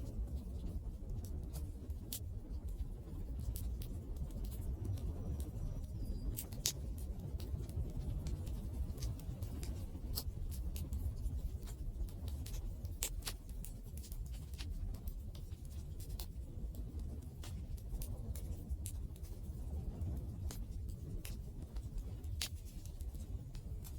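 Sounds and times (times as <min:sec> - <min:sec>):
low rumble of flame: 0:00.0 - 0:23.9
burning wood crackling and popping: 0:00.1 - 0:23.9.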